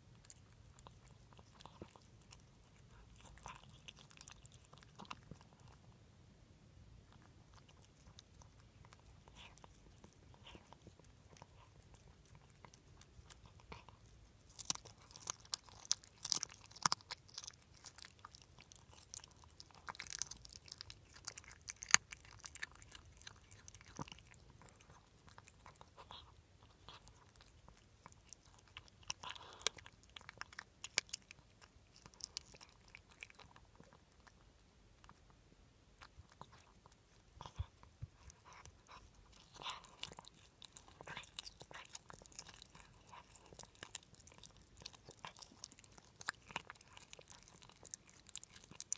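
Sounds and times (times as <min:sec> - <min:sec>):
pet crunching and chewing food: 0:00.0 - 0:48.9.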